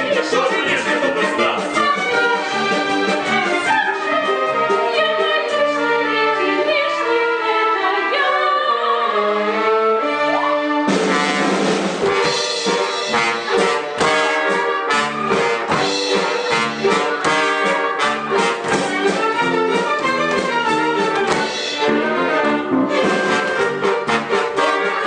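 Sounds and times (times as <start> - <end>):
orchestra playing with brass: 0.0 - 25.0.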